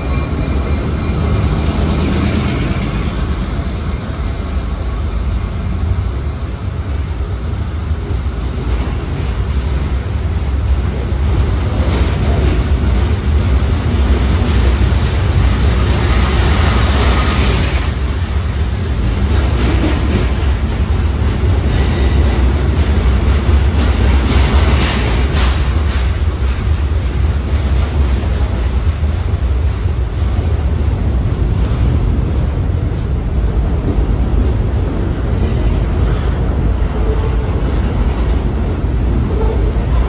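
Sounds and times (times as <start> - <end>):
freight train wheels rumbling: 0.0 - 40.0
train cars clacking and rattling: 0.0 - 40.0.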